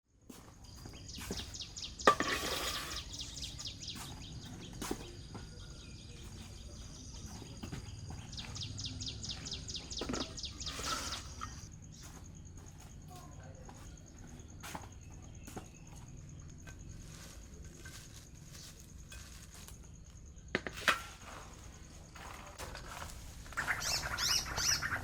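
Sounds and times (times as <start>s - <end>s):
birds chirping: 0.5s - 25.0s
steady high insect-like tone: 3.0s - 25.0s.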